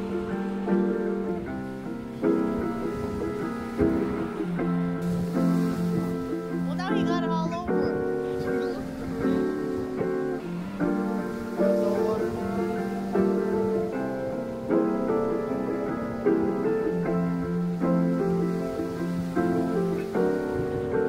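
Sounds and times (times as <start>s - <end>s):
instrumental music: 0.0s - 21.0s.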